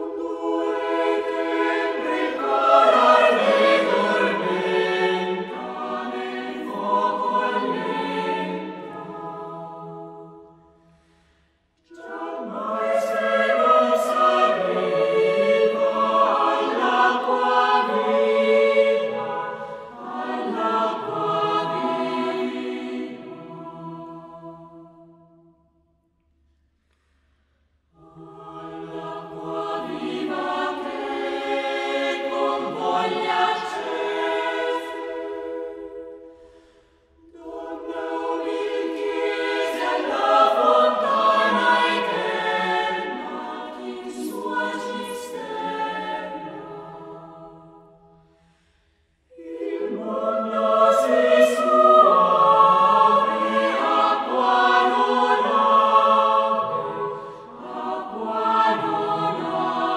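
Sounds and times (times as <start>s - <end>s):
mixed choir singing: 0.0s - 11.0s, 11.8s - 25.4s, 27.9s - 48.4s, 49.2s - 59.9s.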